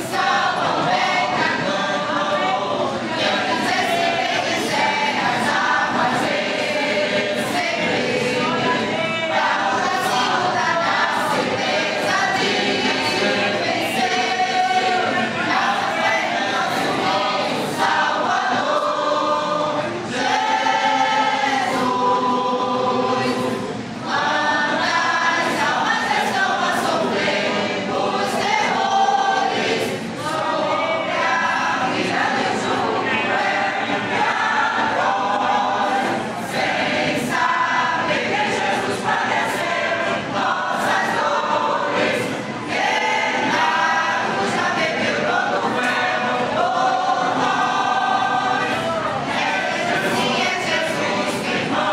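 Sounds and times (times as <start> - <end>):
choir singing a hymn: 0.0 - 51.9.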